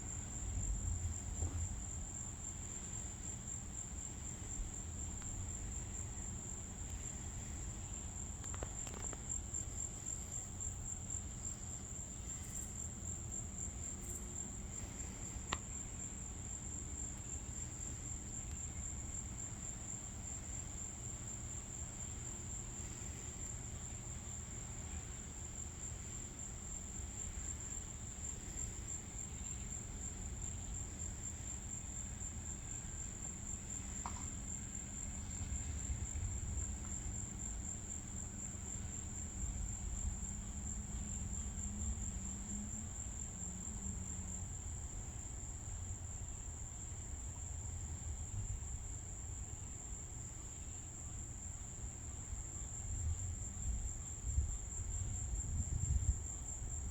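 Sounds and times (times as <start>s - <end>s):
crickets chirping: 0.0s - 56.9s.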